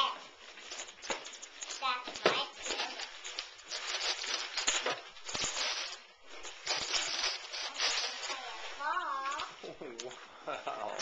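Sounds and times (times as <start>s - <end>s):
paper crinkling and rustling: 0.0s - 10.2s.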